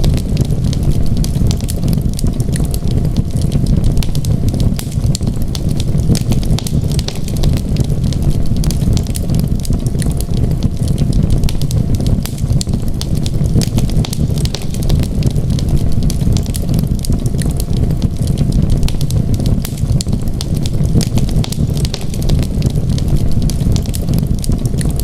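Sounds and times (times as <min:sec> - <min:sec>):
low rumble: 0:00.0 - 0:25.0
wood fire crackling: 0:00.0 - 0:25.0.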